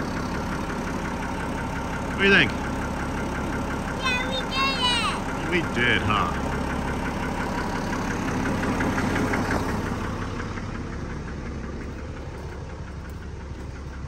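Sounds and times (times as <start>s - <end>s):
engine idling with clatter: 0.0s - 14.0s.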